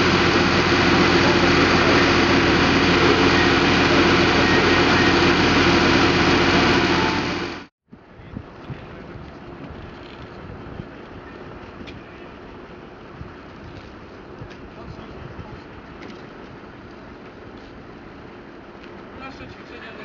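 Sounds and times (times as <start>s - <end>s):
fire engine running: 0.0s - 7.7s, 8.5s - 20.0s
faint wind: 0.0s - 20.0s.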